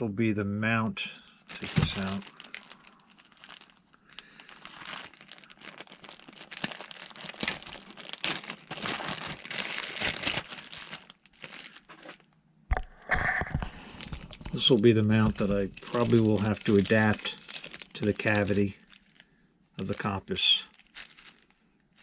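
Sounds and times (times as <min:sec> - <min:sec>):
packaging crinkling and rustling: 0:01.5 - 0:12.4, 0:13.5 - 0:22.0.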